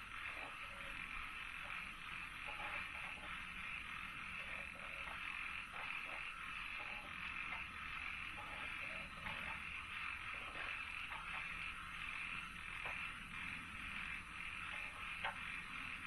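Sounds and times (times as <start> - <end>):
frogs croaking: 0.0 - 16.0.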